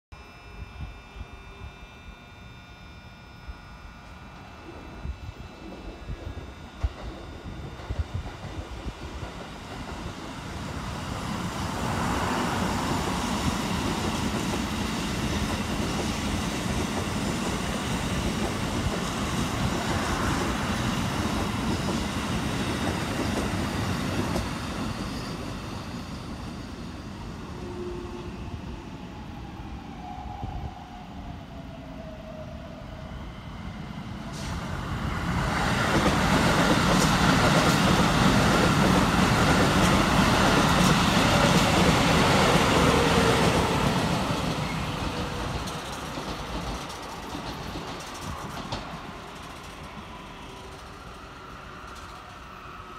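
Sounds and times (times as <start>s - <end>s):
electric trains passing on tracks: 0.2s - 52.9s.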